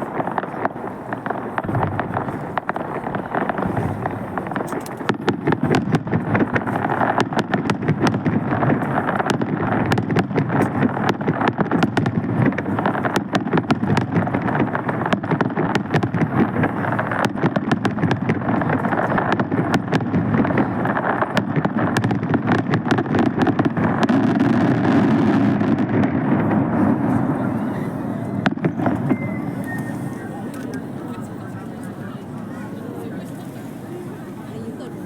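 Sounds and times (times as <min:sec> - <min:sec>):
outdoor crowd din: 0:00.0 - 0:35.0.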